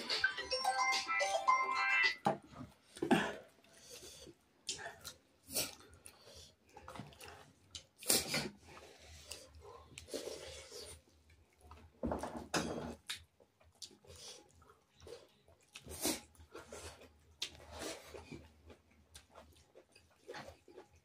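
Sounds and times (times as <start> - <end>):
chewing and lip-smacking: 2.9 - 12.0, 13.0 - 21.0.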